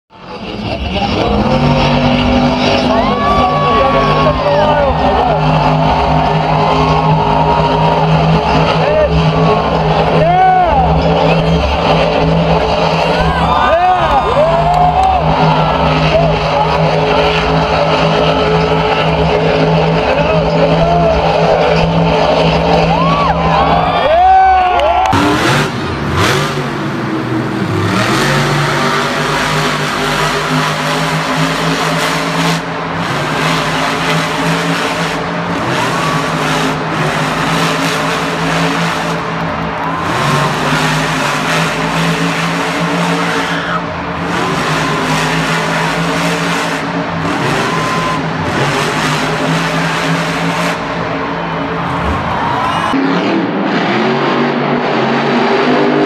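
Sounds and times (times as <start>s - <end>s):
truck engines at high revs: 0.1s - 56.0s.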